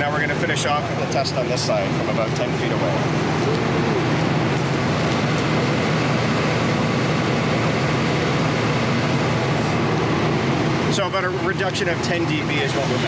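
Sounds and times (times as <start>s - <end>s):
generator engine droning: 0.0s - 13.0s.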